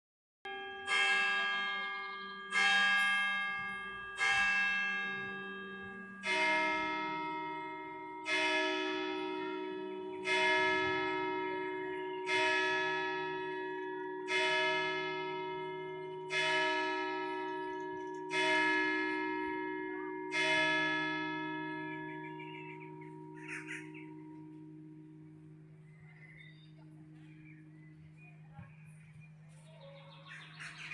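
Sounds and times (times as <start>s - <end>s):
church bells ringing: 0.5s - 30.9s
lower bell tone: 0.5s - 30.9s.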